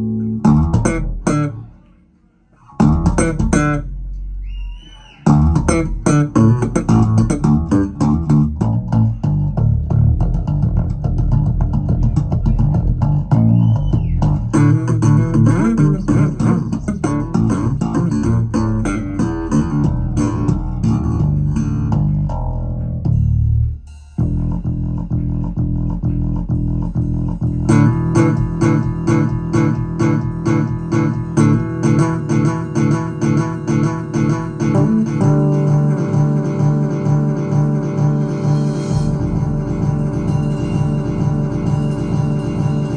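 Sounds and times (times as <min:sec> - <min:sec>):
music with bass and guitar: 0:00.0 - 0:42.9.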